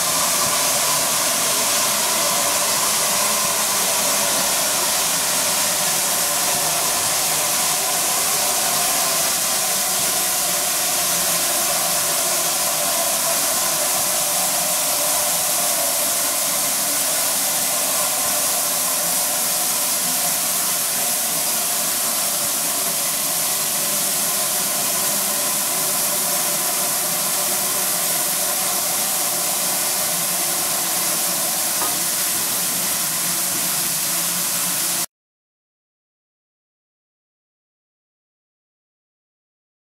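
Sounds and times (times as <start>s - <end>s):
steam locomotive hissing steam: 0.0s - 35.1s.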